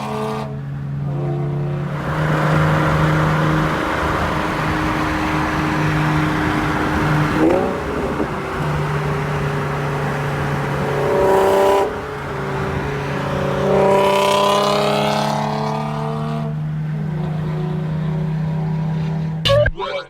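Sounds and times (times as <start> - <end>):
car engine running: 0.5 - 19.7.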